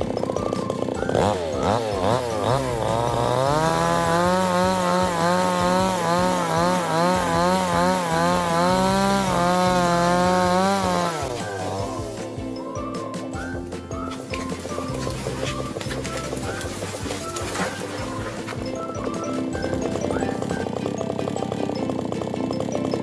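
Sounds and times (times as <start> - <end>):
chainsaw revving and cutting wood: 0.0 - 23.0.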